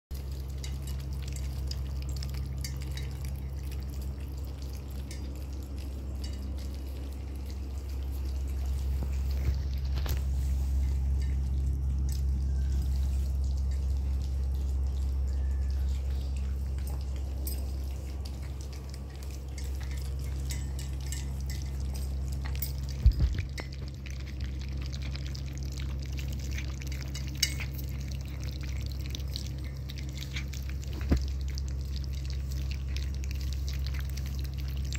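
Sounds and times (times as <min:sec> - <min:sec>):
puppies lapping wet food: 0:00.1 - 0:34.9
steady low hum: 0:00.1 - 0:34.9.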